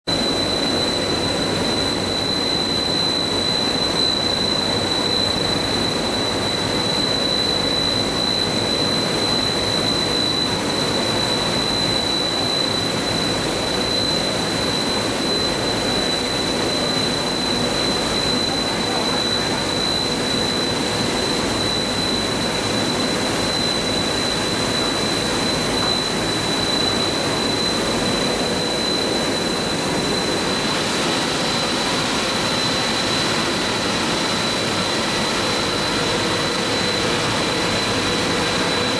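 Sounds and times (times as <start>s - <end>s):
high-pitched whine: 0.1s - 38.9s.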